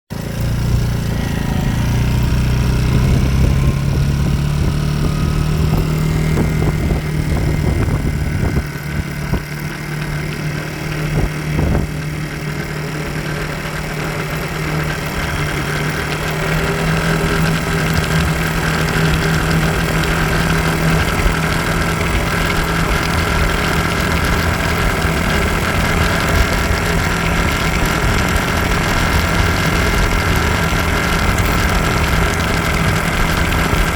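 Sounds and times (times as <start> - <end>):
chain-like rattling noise: 0.1 - 33.9
scooter engine idling: 0.1 - 33.9.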